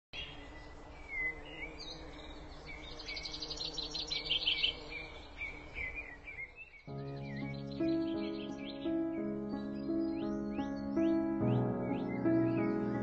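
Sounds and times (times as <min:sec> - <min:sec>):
forest birds calling: 0:00.2 - 0:13.0.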